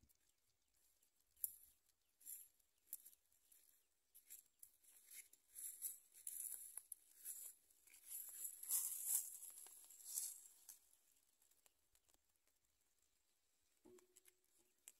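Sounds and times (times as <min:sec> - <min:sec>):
faint rustling and crackling: 0:00.0 - 0:14.9.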